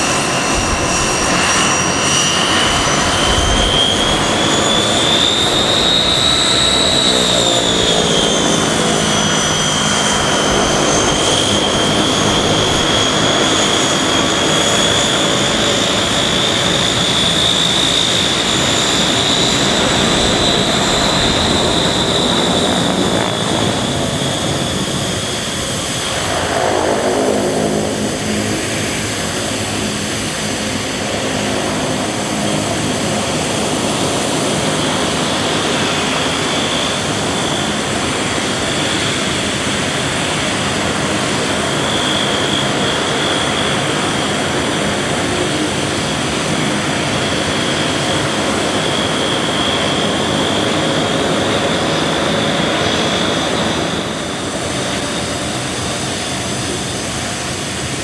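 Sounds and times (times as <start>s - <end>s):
turboprop airliner flying past: 0.0s - 58.0s.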